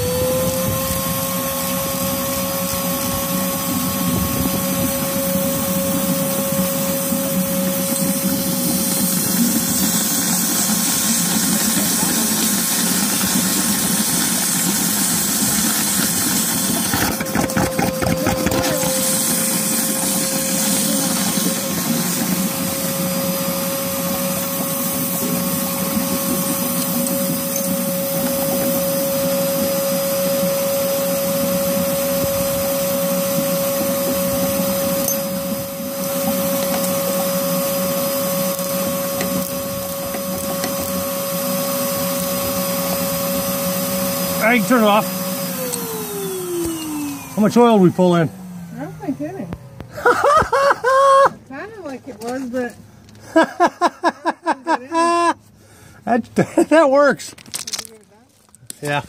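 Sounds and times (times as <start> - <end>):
vacuum cleaner whine: 0.0 - 57.0.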